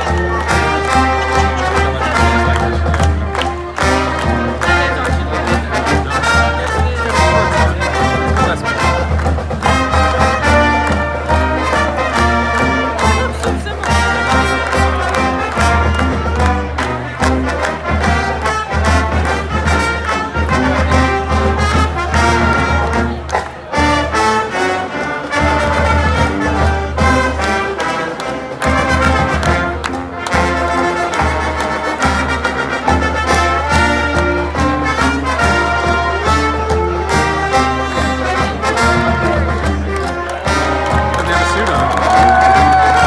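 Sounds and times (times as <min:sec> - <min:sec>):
upbeat brass band music: 0:00.0 - 0:43.0.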